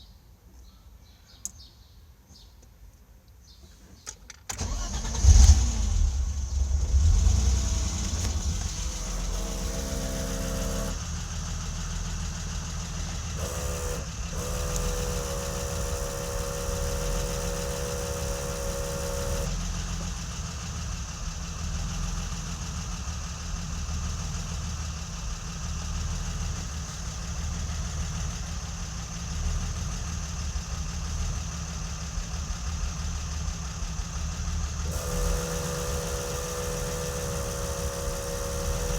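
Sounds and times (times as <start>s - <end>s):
car engine starting and idling: 4.4s - 38.9s.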